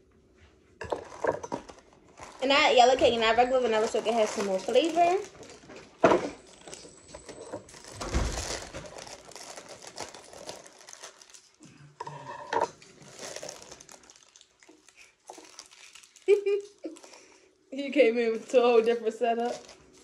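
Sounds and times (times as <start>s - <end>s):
plastic bag crinkling: 0.9s - 11.7s, 12.8s - 17.4s, 18.0s - 20.0s.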